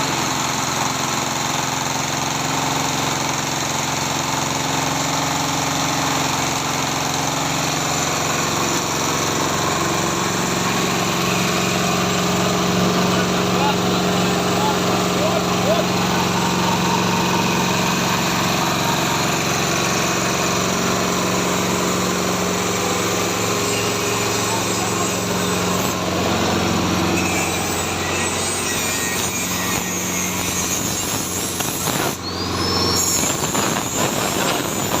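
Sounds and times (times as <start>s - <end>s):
compost shredder running: 0.0s - 35.0s.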